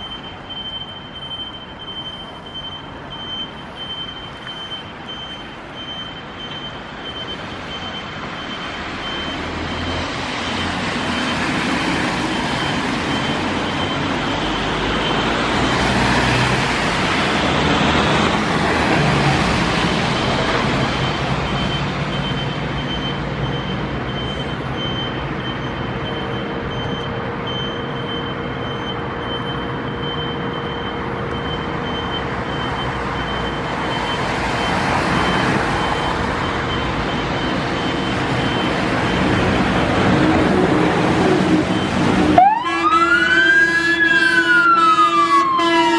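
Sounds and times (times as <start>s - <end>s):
fire engine engine pulling out: 0.0s - 45.9s.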